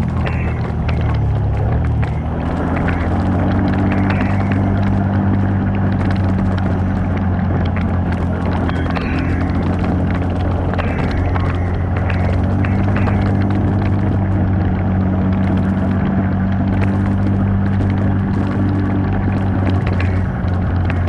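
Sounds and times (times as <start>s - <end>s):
vehicle engine running steadily: 0.0s - 21.0s.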